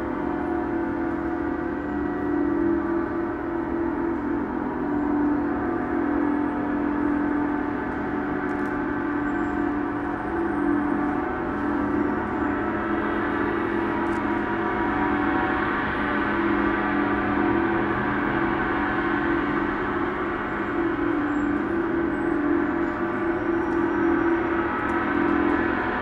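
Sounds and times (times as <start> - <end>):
large gong ringing: 0.0 - 26.0.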